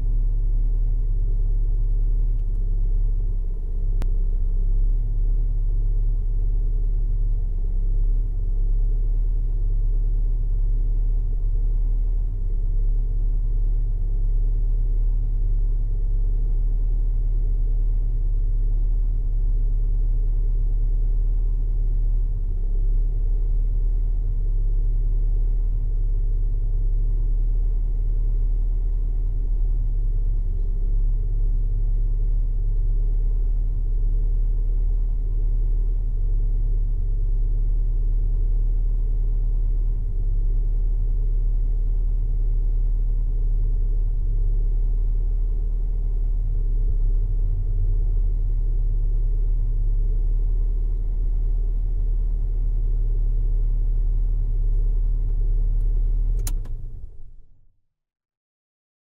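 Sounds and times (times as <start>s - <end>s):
car engine idling: 0.0s - 57.6s.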